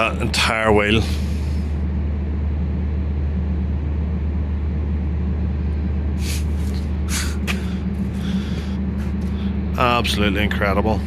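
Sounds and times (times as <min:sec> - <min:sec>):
machine drone with hum: 0:00.0 - 0:11.0.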